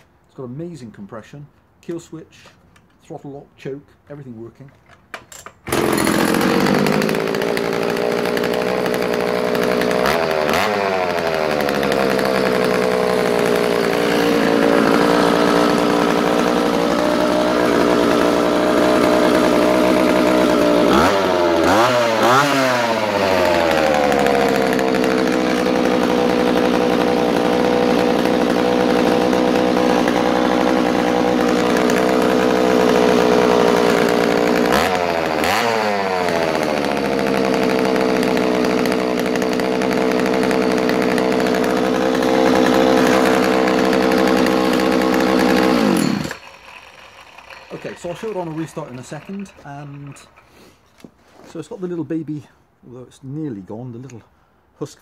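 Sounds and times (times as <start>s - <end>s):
chainsaw engine running and revving: 5.7s - 50.7s.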